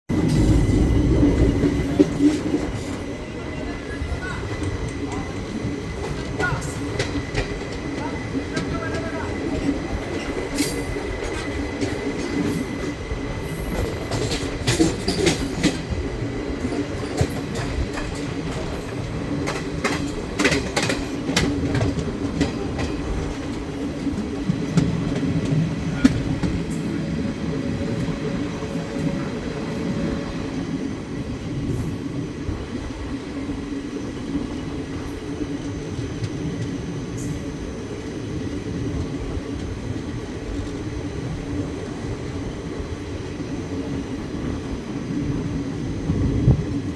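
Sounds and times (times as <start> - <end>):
train wheels rumbling on rails: 0.1 - 46.9.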